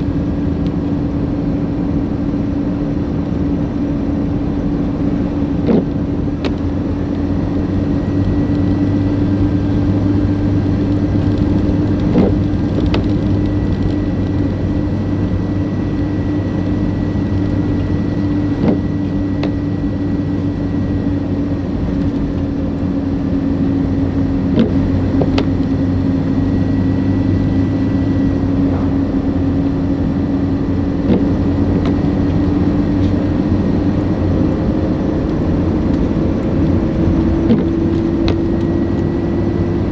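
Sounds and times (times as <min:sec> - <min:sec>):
car driving road noise: 0:00.0 - 0:39.9.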